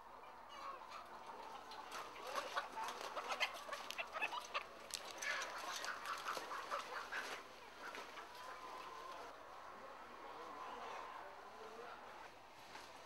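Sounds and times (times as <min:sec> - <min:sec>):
chickens clucking: 0:00.1 - 0:13.0.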